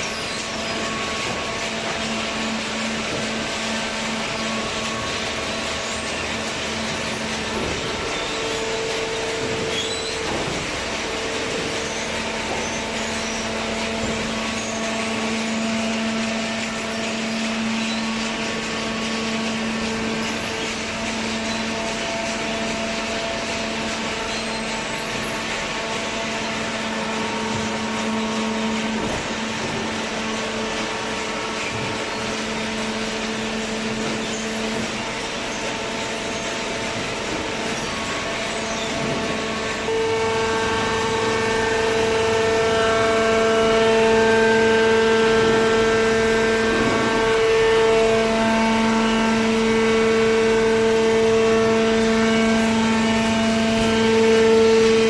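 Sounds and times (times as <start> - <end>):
baler machinery rushing hum: 0.0 - 55.0.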